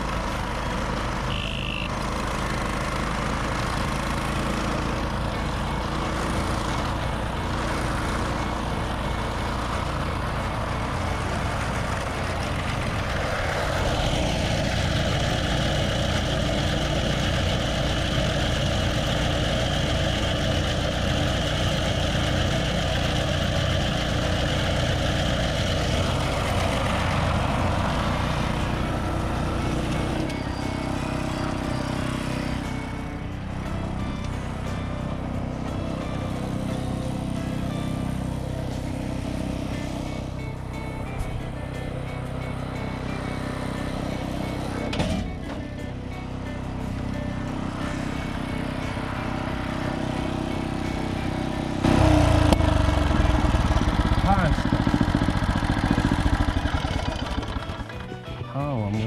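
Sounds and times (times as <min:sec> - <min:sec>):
whirring with steady whine: 0:00.0 - 0:58.0
small engine running: 0:00.0 - 0:59.0.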